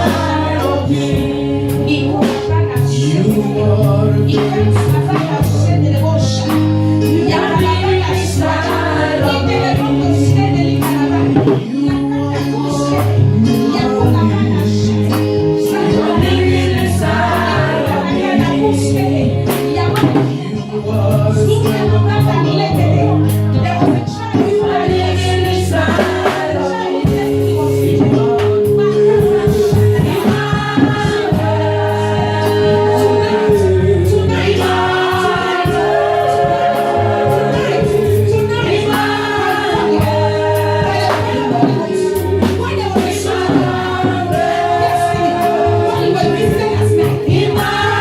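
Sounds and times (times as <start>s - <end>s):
bass and drums beat: 0.0s - 48.0s
choir singing gospel music: 0.0s - 48.0s.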